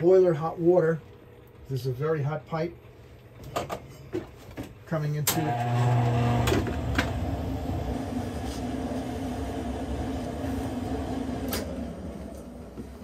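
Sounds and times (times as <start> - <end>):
boiler and pump humming: 0.0 - 13.0.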